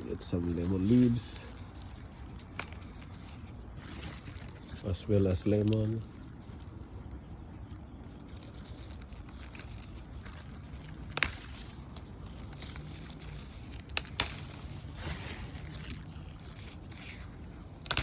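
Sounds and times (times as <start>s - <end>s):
leaves rustling: 0.0s - 18.0s
twigs snapping: 0.0s - 18.0s.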